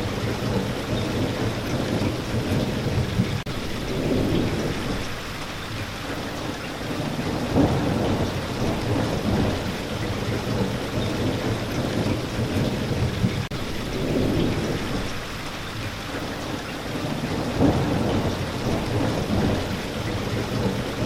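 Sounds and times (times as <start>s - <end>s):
low rolling thunder: 0.0s - 5.6s, 6.4s - 15.6s, 16.4s - 21.0s
heavy rain: 0.0s - 21.0s.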